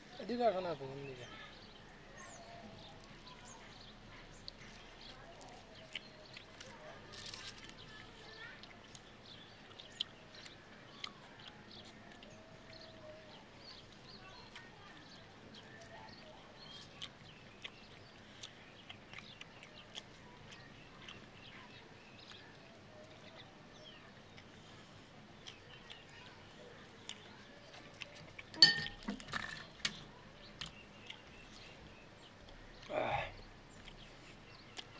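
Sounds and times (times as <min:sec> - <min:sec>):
people chewing and lip-smacking: 0:01.3 - 0:34.9.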